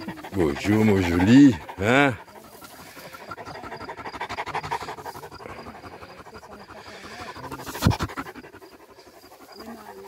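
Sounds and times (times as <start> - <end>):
dog panting rapidly: 0.0 - 10.0.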